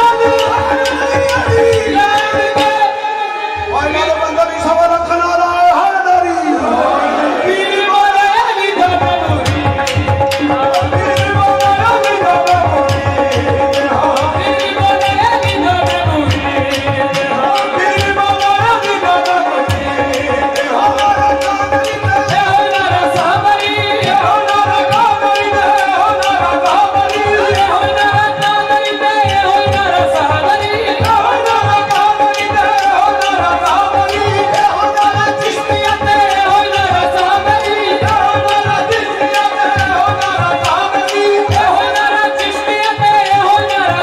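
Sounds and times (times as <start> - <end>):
person singing: 0.0 - 4.6, 6.9 - 44.0
tabla: 0.0 - 44.0.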